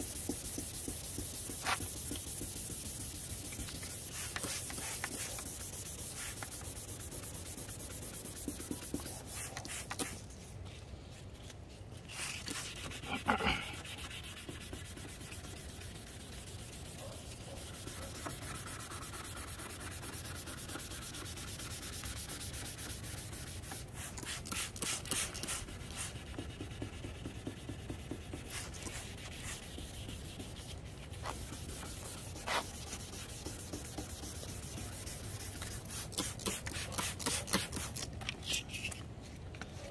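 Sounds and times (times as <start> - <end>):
sandpaper rubbing on plastic: 0.0 - 10.6, 12.0 - 39.0.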